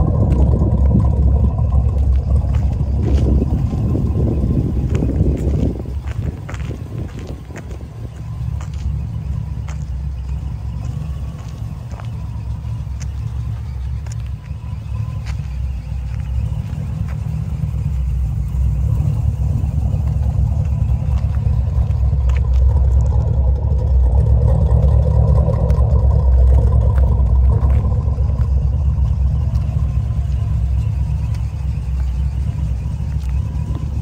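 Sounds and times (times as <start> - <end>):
car engine low rumble: 0.0 - 34.0.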